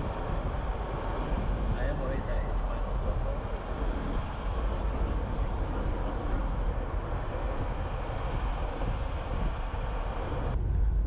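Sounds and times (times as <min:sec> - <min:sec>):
road and engine rumble: 0:00.0 - 0:11.0
wind buffeting microphone: 0:00.0 - 0:11.0.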